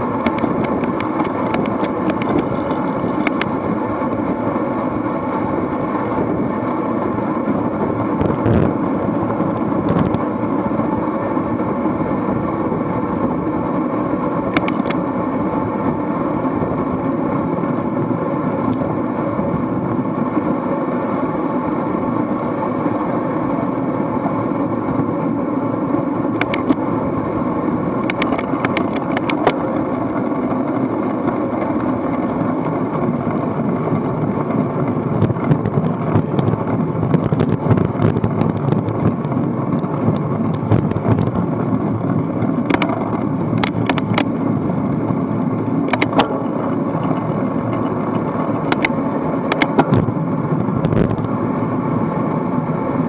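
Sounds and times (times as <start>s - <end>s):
bicycle tyre noise: 0.0s - 53.0s
wind rushing over microphone: 0.0s - 53.0s.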